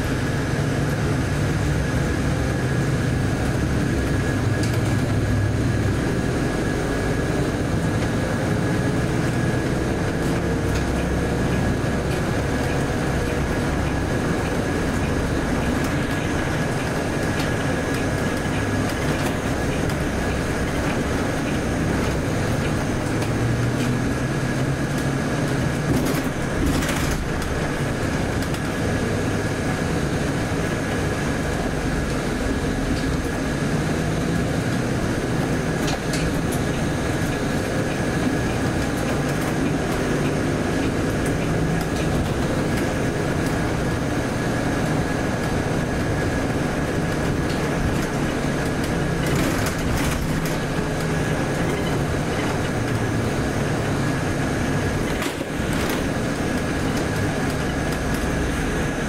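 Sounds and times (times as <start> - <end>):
bus engine running: 0.0 - 59.0
road noise: 0.0 - 59.0.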